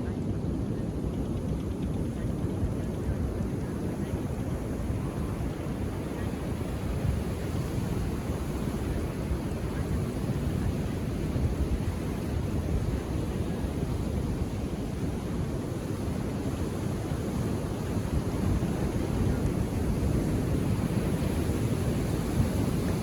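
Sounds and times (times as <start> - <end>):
deep rumble of surf: 0.0 - 23.0.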